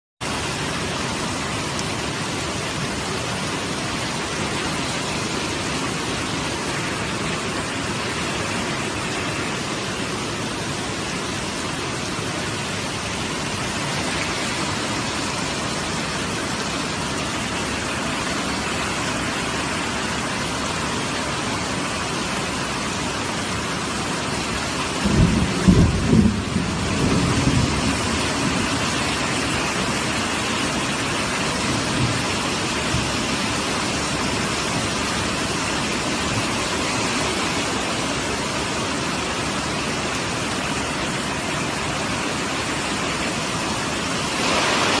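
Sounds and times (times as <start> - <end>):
heavy rain: 0.2 - 45.0.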